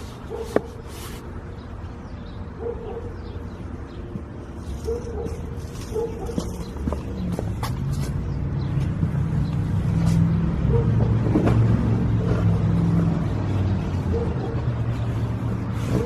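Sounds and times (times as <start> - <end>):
motor vehicle rumbling: 0.0 - 16.0.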